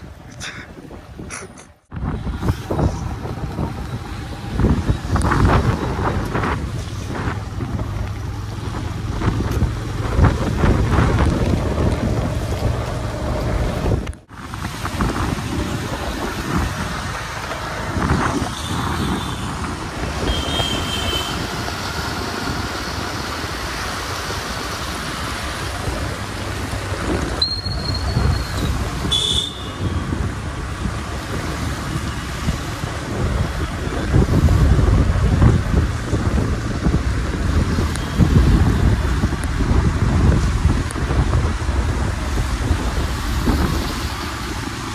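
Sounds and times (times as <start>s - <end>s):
traffic on wet road: 0.0s - 44.9s
wind buffeting microphone: 0.0s - 44.9s.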